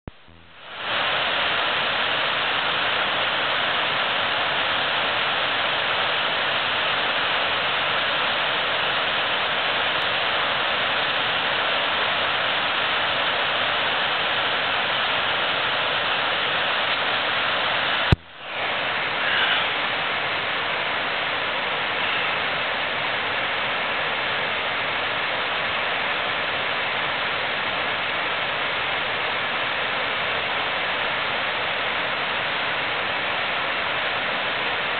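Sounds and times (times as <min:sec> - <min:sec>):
river water rushing over rapids: 0:00.6 - 0:34.9.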